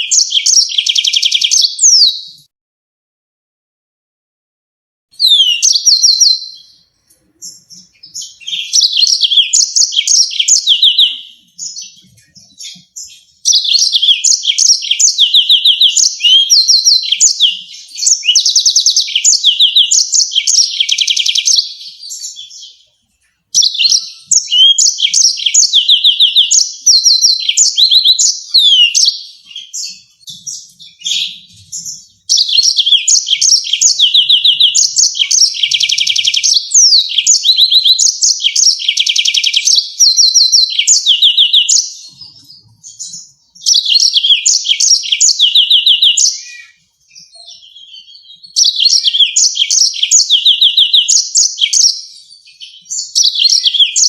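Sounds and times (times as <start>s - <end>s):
canary singing trills: 0.0s - 2.5s, 5.1s - 54.0s.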